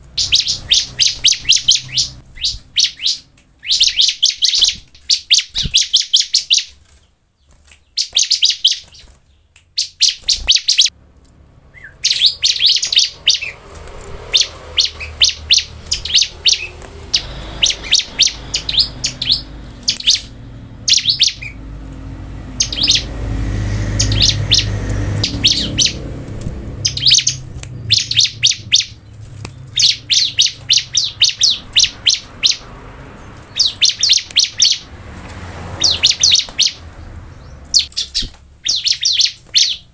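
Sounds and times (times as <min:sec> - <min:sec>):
bird chirping rapidly: 0:00.0 - 0:11.0, 0:11.6 - 0:39.9.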